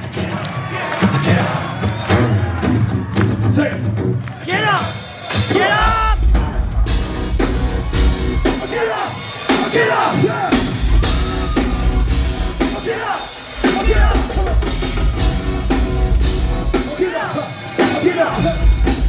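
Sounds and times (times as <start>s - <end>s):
drum kit beat: 1.0s - 19.0s
bass guitar: 1.9s - 8.8s, 9.5s - 19.0s.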